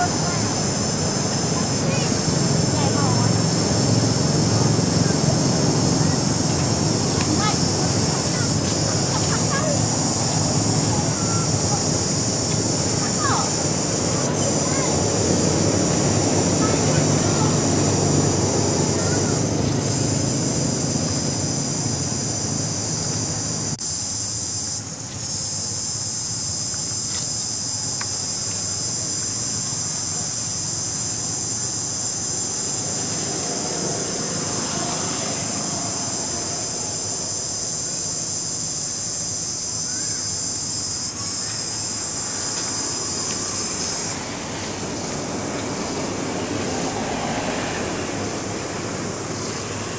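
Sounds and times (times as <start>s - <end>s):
high-pitched insect chorus: 0.0s - 49.9s.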